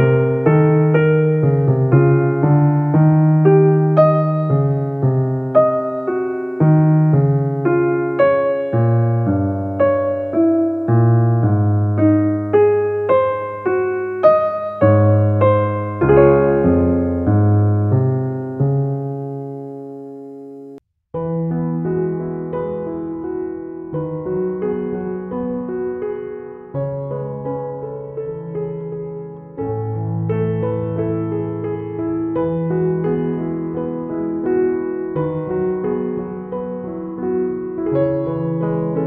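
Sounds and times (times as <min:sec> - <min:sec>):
slow piano melody: 0:00.0 - 0:39.0.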